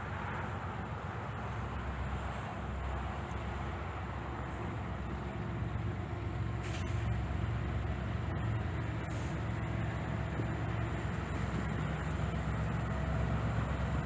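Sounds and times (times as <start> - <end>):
diesel locomotive rumble: 0.0 - 14.0
wheel and rail noise: 0.0 - 14.0.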